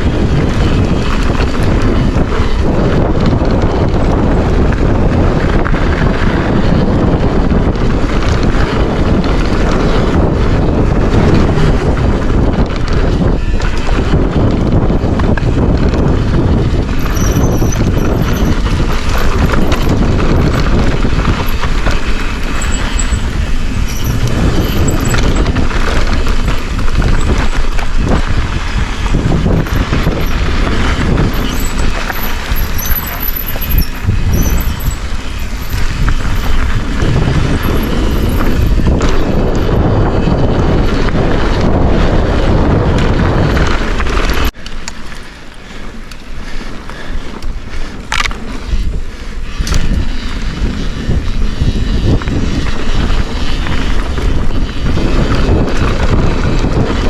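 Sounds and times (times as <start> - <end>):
bike tyres rumbling over dirt: 0.0 - 57.0
wind noise on microphone: 0.0 - 57.0.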